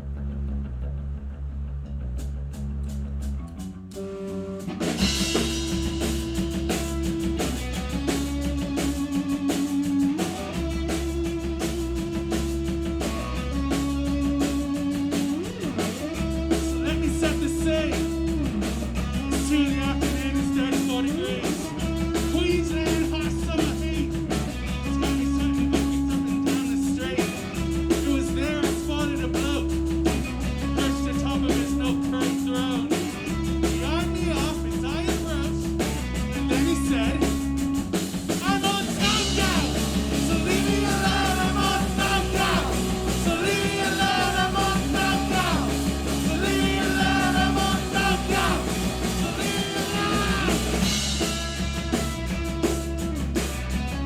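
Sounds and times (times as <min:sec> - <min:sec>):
live punk rock band: 0:01.9 - 0:54.0
electric guitar riff: 0:03.4 - 0:54.0.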